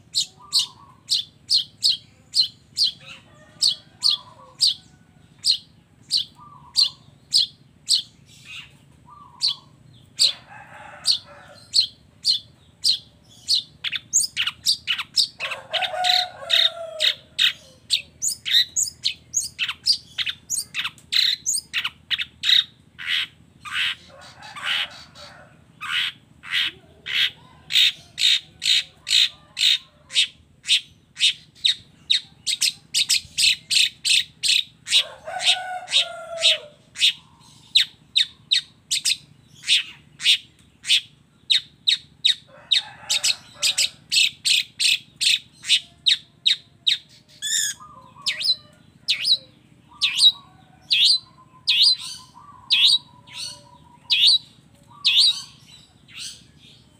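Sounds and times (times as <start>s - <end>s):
lower bird trill: 0.0s - 56.9s.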